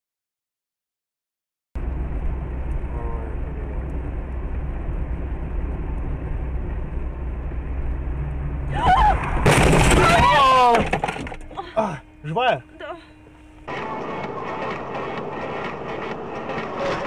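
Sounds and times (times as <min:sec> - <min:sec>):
car road and engine rumble: 0:01.8 - 0:17.0.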